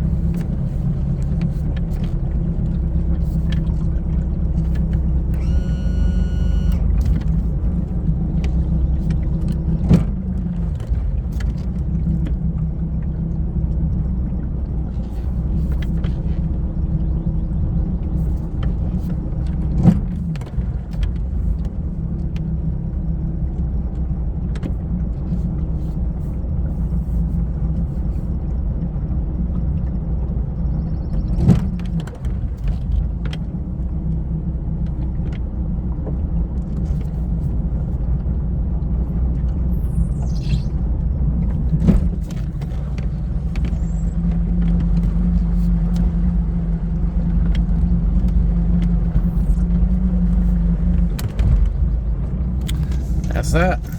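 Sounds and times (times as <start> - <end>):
boat engine running: 0.0 - 24.4, 29.5 - 53.9.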